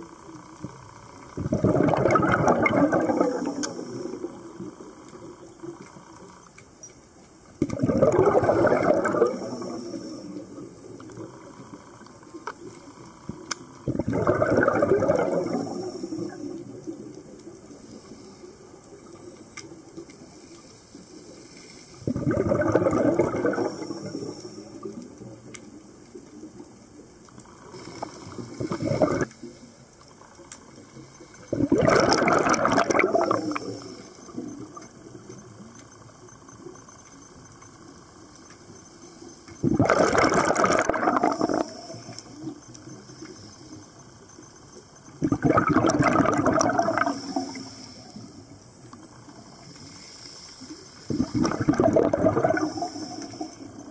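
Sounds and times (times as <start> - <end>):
regulator bubbles gushing underwater: 0.0 - 6.2, 7.4 - 50.1, 50.8 - 53.9
quiet hiss: 0.0 - 53.9.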